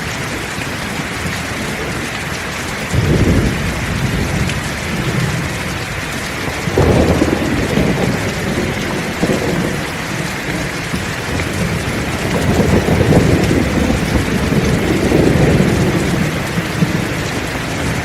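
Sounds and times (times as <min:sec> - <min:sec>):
heavy rain: 0:00.0 - 0:18.0
rolling thunder: 0:02.9 - 0:18.0.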